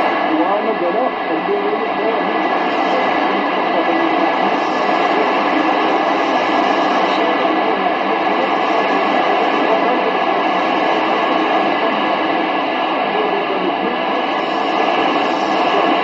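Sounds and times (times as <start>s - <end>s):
faint voice on radio: 0.0s - 16.0s
radio hiss and static: 0.0s - 16.0s.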